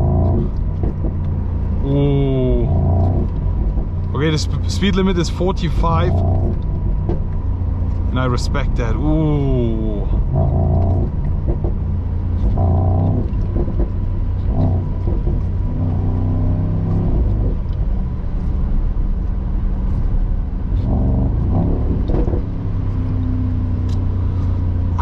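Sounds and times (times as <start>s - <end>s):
car engine drone from inside: 0.0s - 25.0s.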